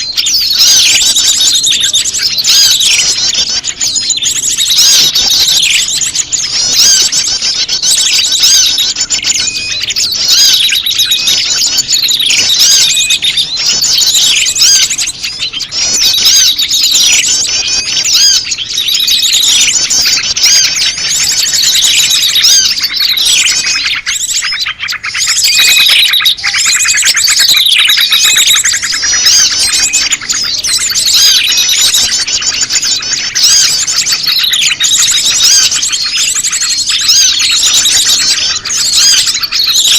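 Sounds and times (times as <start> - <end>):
bird calls playback: 0.0 - 39.9
small birds chirping and trilling: 0.0 - 39.9.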